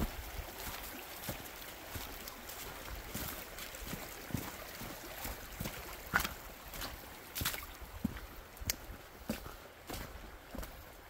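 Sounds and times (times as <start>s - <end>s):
footsteps walking: 0.0s - 10.9s.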